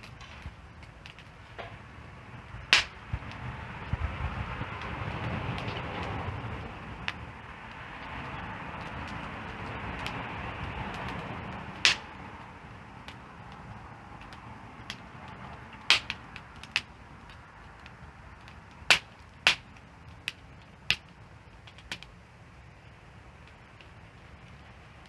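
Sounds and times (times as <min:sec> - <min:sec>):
burning wood popping: 0:00.0 - 0:25.0
soft steady hiss: 0:00.0 - 0:25.0
wood fire crackling: 0:00.0 - 0:25.0.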